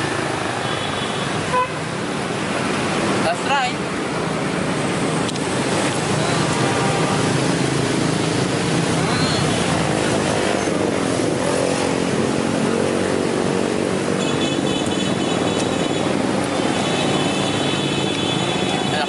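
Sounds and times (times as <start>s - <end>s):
motorbike engines passing: 0.0s - 19.0s
street traffic din: 0.0s - 19.0s.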